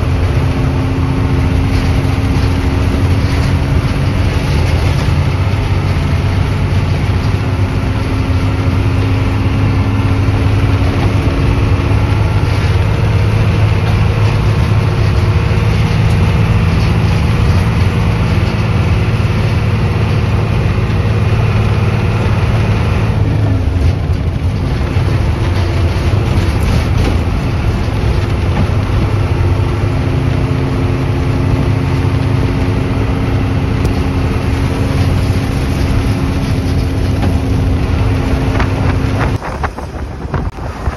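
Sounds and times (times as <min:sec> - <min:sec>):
bus diesel engine drone: 0:00.0 - 0:40.9
road noise: 0:00.0 - 0:40.9.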